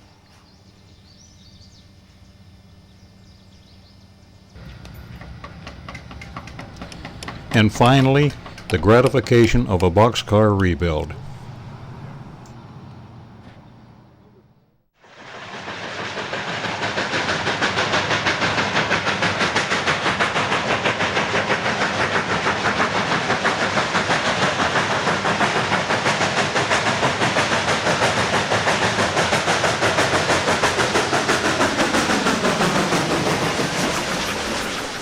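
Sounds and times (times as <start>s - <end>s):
steam locomotive chuffing: 0.0s - 35.0s.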